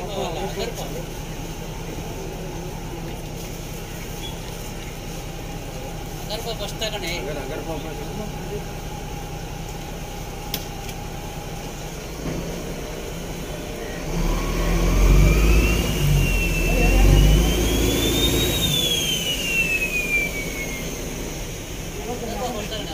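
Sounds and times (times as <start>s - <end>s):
boat diesel engine rumbling: 0.0s - 22.9s
high whine: 0.0s - 22.9s.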